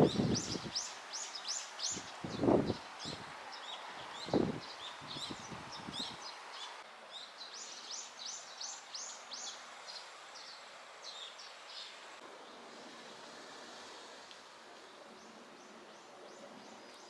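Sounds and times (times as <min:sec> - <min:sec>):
small birds chirping: 0:00.0 - 0:17.0
steady background hiss: 0:00.0 - 0:17.0.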